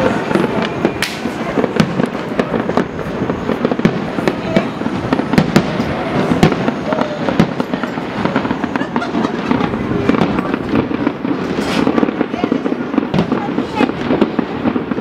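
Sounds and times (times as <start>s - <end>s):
fireworks rumble and crackle: 0.0s - 15.0s
sharp firework bangs: 0.0s - 15.0s.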